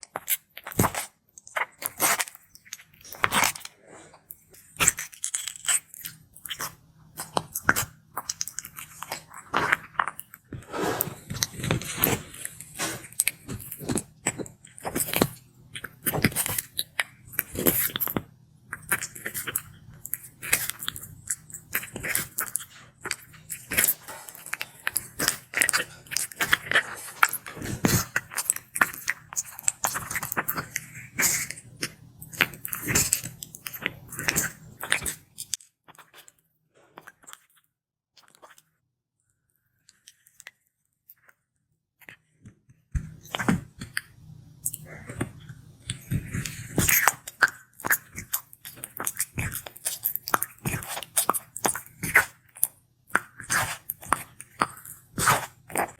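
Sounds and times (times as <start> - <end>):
tortoise crunching food: 0.0 - 37.6, 43.0 - 55.9.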